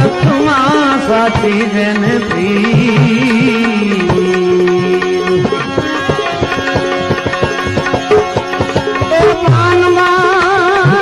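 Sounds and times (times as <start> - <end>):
held melody notes: 0.0 - 11.0
tabla strokes: 0.0 - 11.0.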